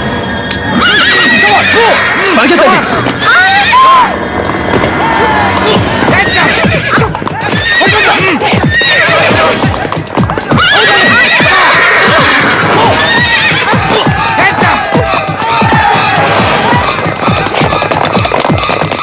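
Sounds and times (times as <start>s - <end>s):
film soundtrack music: 0.0s - 19.0s
horses neighing: 0.7s - 19.0s
hooves clattering at a gallop: 2.8s - 19.0s.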